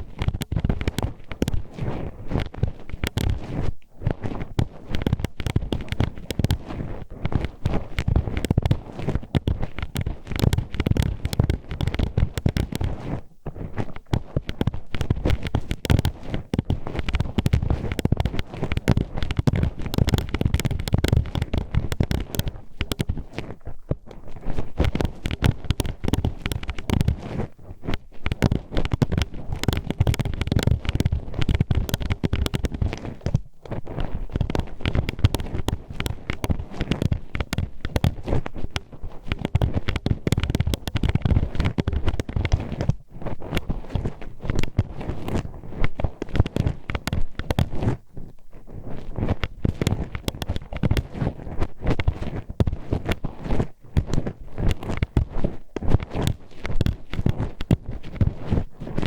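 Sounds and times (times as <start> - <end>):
hairpin scraping microphone: 0.0 - 59.0.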